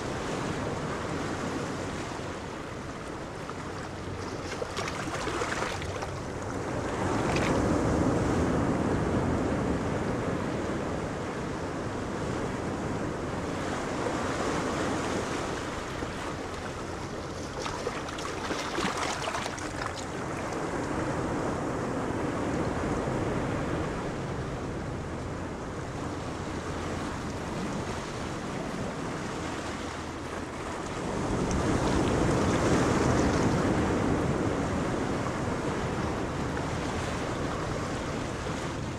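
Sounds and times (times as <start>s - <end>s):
boat engine hum: 0.0s - 38.9s
choppy sea: 0.0s - 38.9s
wind on microphone: 0.0s - 38.9s.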